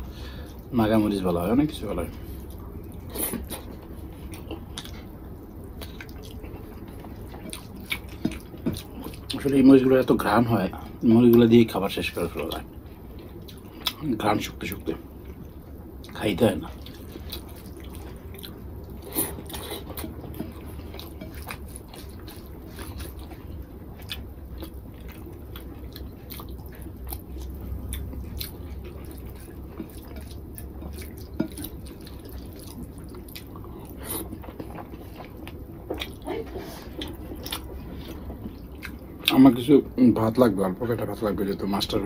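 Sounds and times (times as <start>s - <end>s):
wet chewing: 2.1s - 9.7s, 12.4s - 39.4s.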